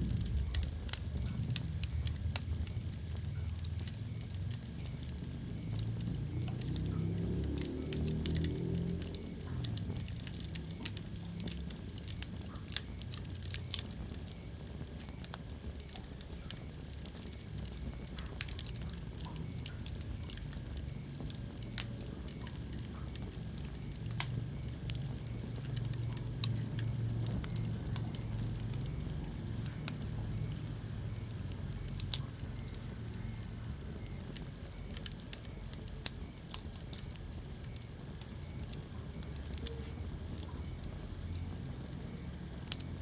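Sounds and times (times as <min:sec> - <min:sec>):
fire pops and snaps: 0:00.0 - 0:43.0
low rumble of flames: 0:00.0 - 0:43.0
wood fire crackling: 0:00.0 - 0:43.0.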